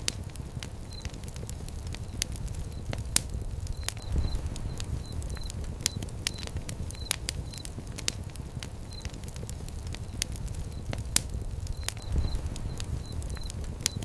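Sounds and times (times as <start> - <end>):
fire pit crackling and popping: 0.0 - 14.0.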